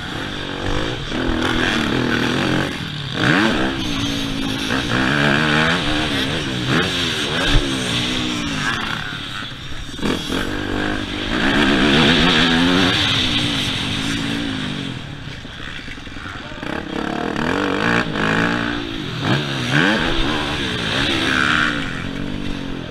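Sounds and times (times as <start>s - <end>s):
motocross bike engine revving: 0.0s - 22.9s.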